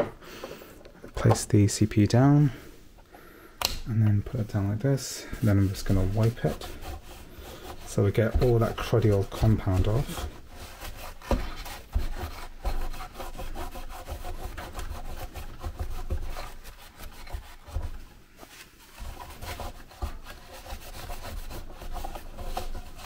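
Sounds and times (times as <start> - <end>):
cloth rubbing on metal lid: 4.3 - 23.0.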